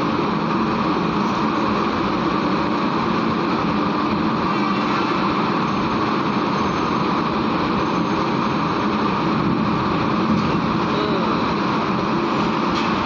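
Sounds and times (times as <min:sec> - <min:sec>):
diesel truck engines droning: 0:00.0 - 0:13.0.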